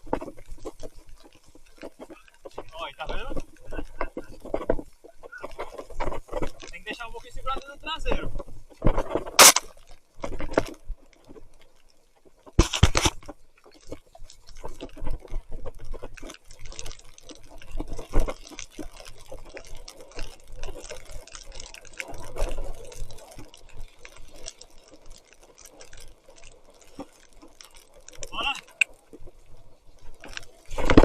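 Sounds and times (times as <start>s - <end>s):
bike rattles and clicks: 0.0s - 31.0s.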